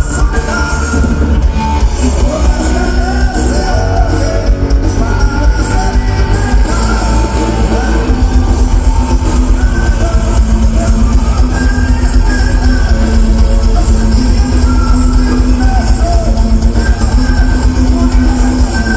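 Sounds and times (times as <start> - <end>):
live rock band playing: 0.0 - 18.9
person singing: 0.0 - 18.9.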